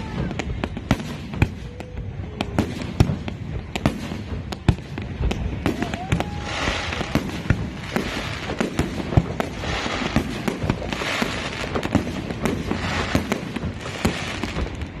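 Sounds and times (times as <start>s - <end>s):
fireworks bangs and pops: 0.0s - 15.0s
fireworks crackling: 0.0s - 15.0s.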